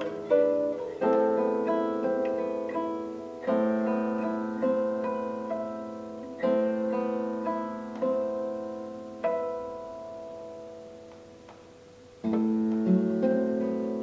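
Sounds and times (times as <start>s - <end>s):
classical guitars playing chords: 0.0s - 14.0s.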